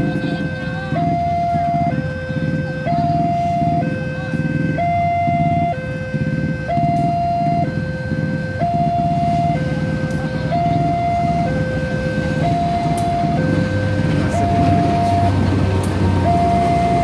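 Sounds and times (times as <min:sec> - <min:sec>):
level crossing two-tone alarm: 0:00.0 - 0:17.0
low engine rumble: 0:00.0 - 0:17.0.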